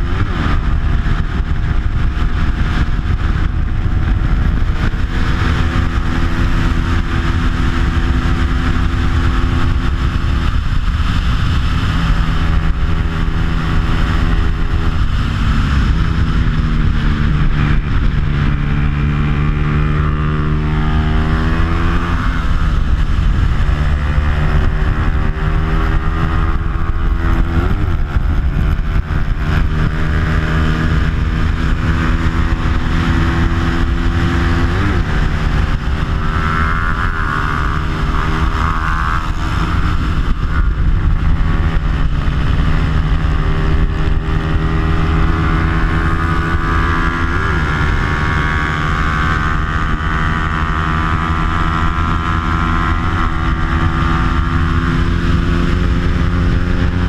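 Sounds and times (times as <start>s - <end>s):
motorcycle engine at high revs: 0.0s - 57.0s
wind rush over microphone: 0.0s - 57.0s.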